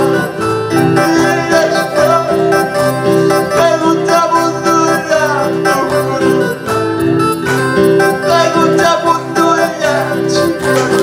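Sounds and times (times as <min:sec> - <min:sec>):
man singing into a microphone: 0:00.0 - 0:06.9, 0:08.0 - 0:11.0
electronic keyboard bouncy rhythm: 0:00.0 - 0:11.0.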